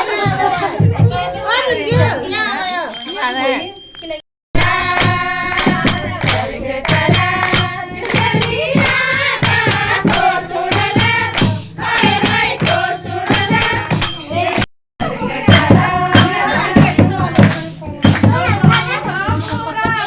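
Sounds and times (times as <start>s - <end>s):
jingling percussion: 0.0s - 20.0s
percussion beat: 0.0s - 20.0s
voices singing: 0.0s - 20.0s.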